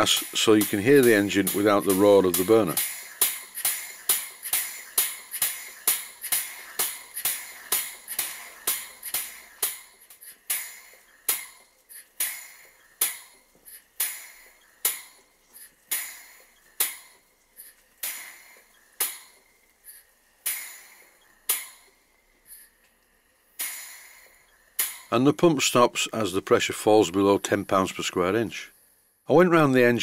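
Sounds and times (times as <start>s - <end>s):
steam pump clacking: 0.0s - 28.9s
steam hissing: 0.0s - 29.0s.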